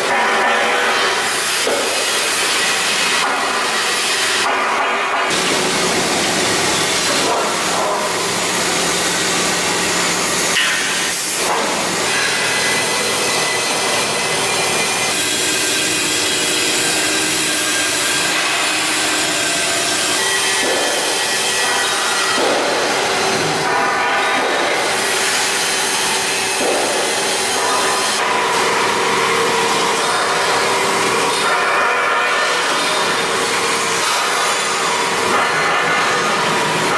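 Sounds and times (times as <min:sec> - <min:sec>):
band saw cutting steel: 0:00.0 - 0:36.9
machine noise in workshop: 0:00.0 - 0:36.9.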